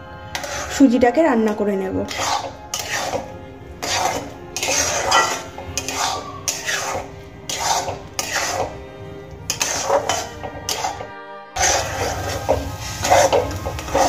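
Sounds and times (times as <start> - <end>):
metal spatula scraping pan: 0.3 - 14.0.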